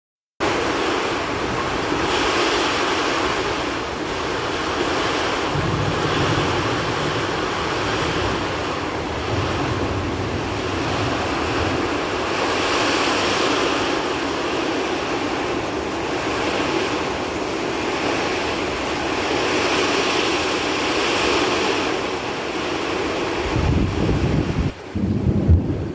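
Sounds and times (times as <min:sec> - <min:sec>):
gusting wind: 0:00.4 - 0:25.9
heavy rain: 0:00.4 - 0:25.9.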